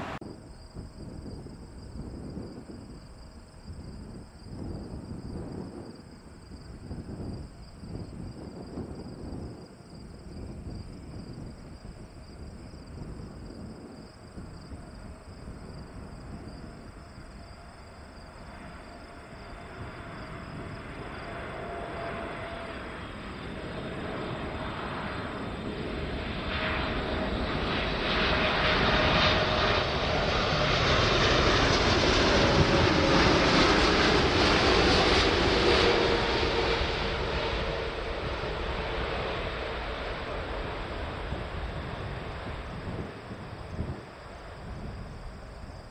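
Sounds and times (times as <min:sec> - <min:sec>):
jet engine whine and rumble: 0:00.0 - 0:45.9.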